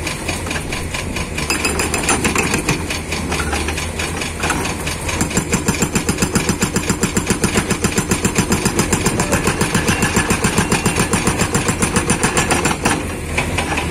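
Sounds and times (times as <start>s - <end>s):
diesel engine running: 0.0s - 13.9s
hydraulic rock breaker hammering rock: 0.0s - 13.9s.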